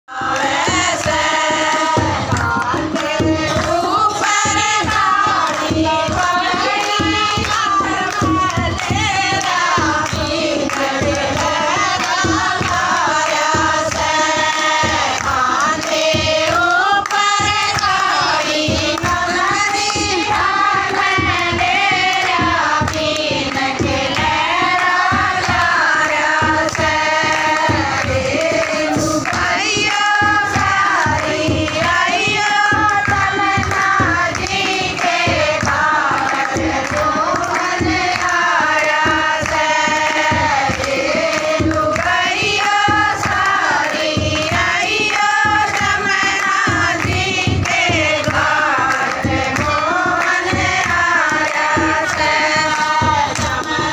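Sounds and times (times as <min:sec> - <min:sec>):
women singing together: 0:00.0 - 0:53.9
dholak drum: 0:00.1 - 0:53.9
hand-clapping: 0:00.1 - 0:53.9.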